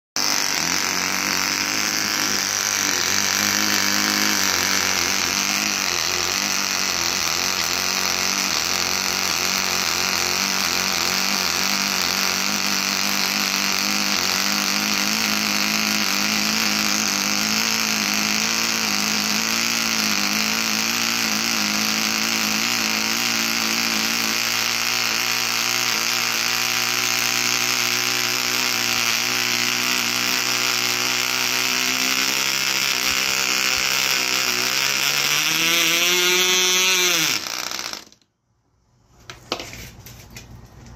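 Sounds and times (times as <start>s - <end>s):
small engine high-pitched buzz: 0.2s - 38.4s.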